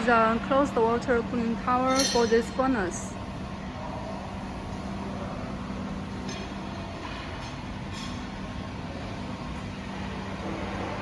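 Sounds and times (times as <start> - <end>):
factory machinery drone: 0.0 - 11.0.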